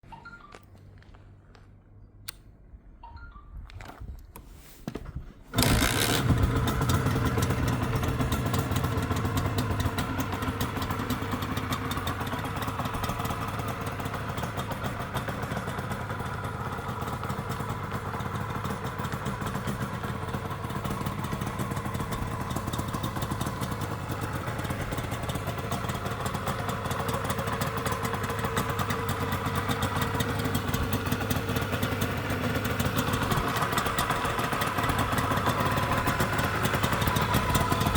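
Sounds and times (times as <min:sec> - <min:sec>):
two-stroke engine starting and idling: 0:05.5 - 0:37.9.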